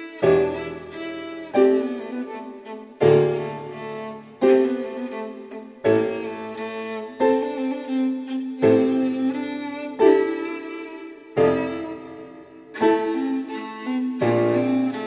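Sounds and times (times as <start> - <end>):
piano chords: 0.0 - 15.0
violin melody: 0.0 - 15.0.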